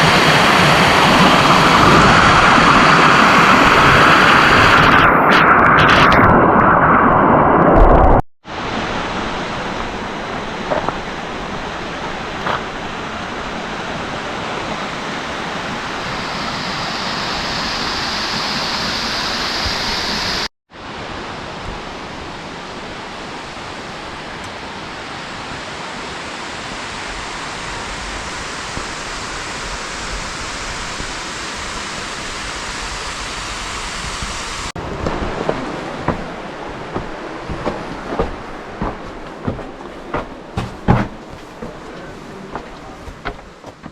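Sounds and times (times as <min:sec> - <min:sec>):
waterfall rushing: 0:00.0 - 0:07.6, 0:08.5 - 0:40.7.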